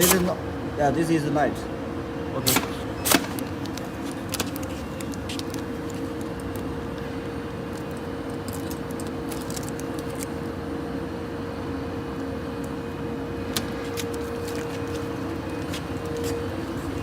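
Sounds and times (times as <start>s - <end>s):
tape machine humming: 0.0s - 17.0s.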